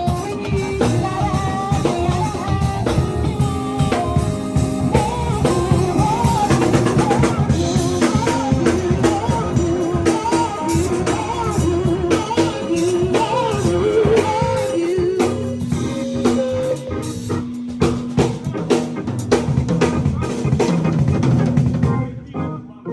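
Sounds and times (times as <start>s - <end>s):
drum kit: 0.0s - 22.3s
bass: 0.0s - 22.7s
bending lead guitar melody: 0.0s - 22.9s
keyboard: 0.0s - 22.9s.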